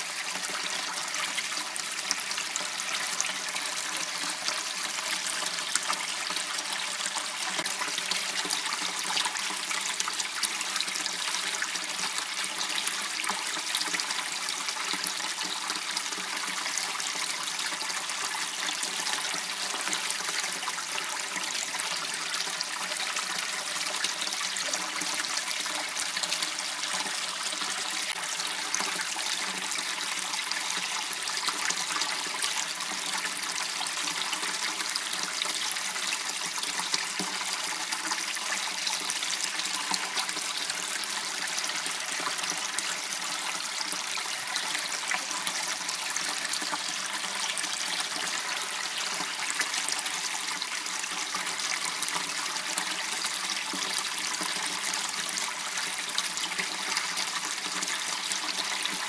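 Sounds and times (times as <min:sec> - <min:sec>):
water running in canal: 0:00.0 - 0:59.0.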